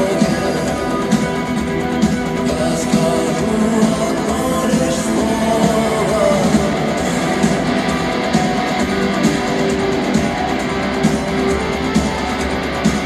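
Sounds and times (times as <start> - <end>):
bass guitar: 0.0 - 13.0
drum beat: 0.0 - 13.0
electric guitars strumming: 0.0 - 13.0.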